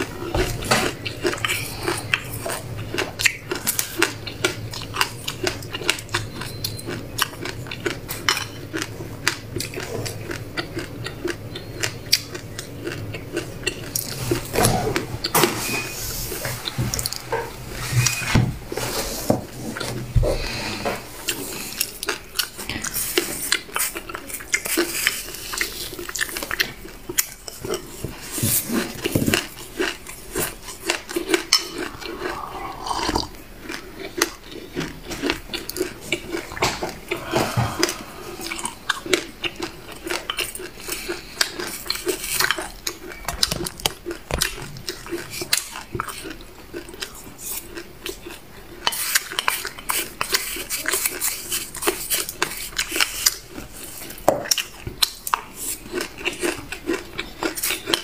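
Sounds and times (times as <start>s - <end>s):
chewing and biting seeds: 0.0s - 18.2s, 18.9s - 58.0s.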